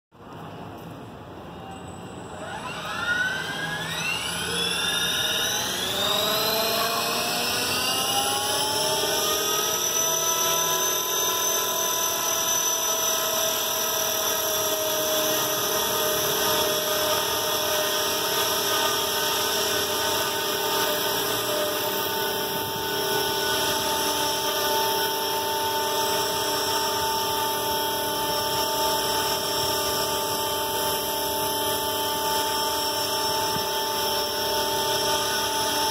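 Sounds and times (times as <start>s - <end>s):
rc helicopter motor and rotor whine: 2.2s - 35.9s.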